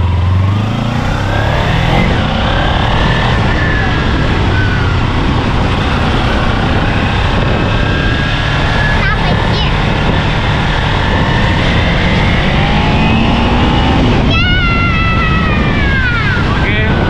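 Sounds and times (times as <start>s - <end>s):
motorcycle engine running: 0.0s - 17.0s
wind noise: 0.0s - 17.0s.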